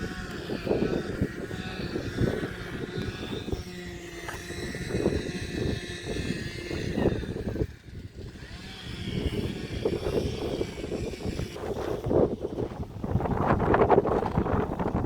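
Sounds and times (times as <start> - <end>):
distant motor drone: 0.0 - 15.0
wind buffeting microphone: 0.0 - 15.0.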